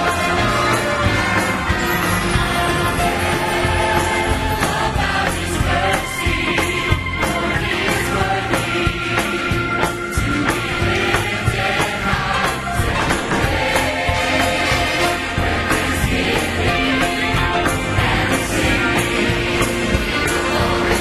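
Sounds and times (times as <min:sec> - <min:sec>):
choir singing gospel song: 0:00.0 - 0:21.0
orchestra and piano: 0:00.0 - 0:21.0.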